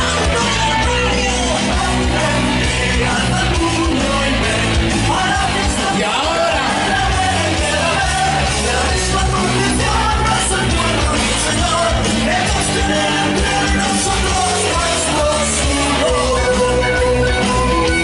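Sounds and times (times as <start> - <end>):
loud rock music: 0.0 - 18.0
person singing and shouting: 0.0 - 18.0.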